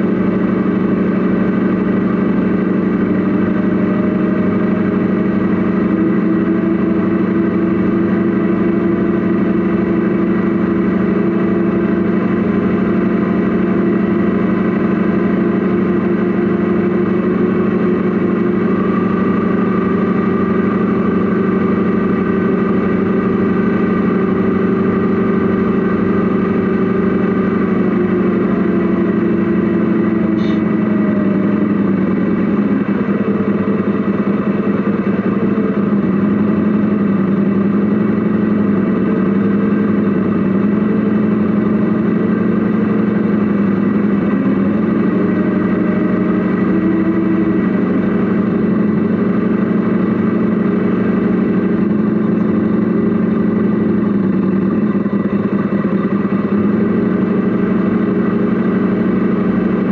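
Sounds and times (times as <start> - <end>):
model truck engine drone: 0.0 - 59.9.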